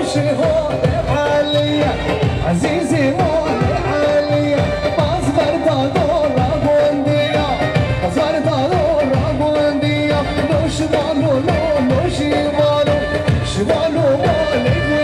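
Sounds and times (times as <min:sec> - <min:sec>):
ornamented lead melody: 0:00.0 - 0:15.0
steady drum beat: 0:00.0 - 0:15.0.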